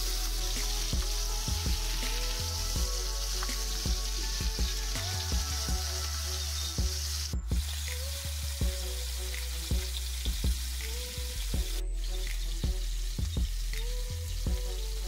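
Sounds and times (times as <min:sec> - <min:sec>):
background music with beat and bass: 0:00.0 - 0:15.0
ribs sizzling in hot oil: 0:00.0 - 0:15.0.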